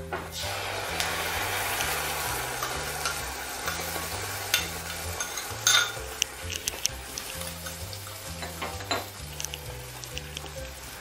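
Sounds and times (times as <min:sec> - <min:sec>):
paste sizzling in hot oil: 0:00.3 - 0:11.0.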